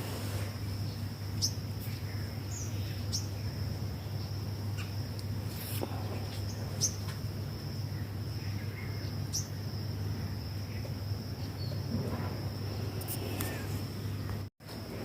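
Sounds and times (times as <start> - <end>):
insect trilling: 0.4 - 14.3.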